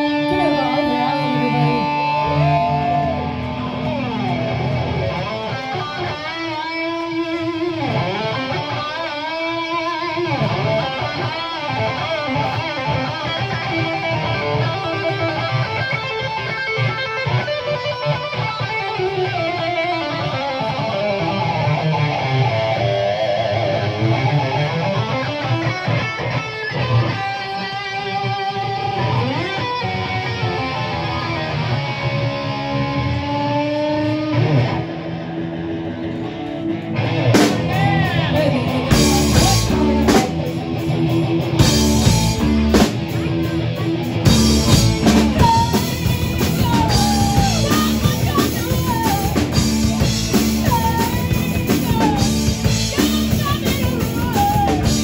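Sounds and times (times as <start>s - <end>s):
electric guitar bending notes: 0.0s - 55.0s
live rock band playing: 0.0s - 55.0s.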